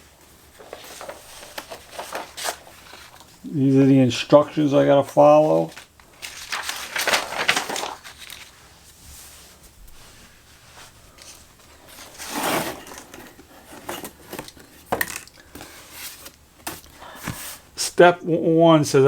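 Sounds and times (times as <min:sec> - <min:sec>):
paper rustling: 0:00.4 - 0:03.4, 0:04.0 - 0:17.7.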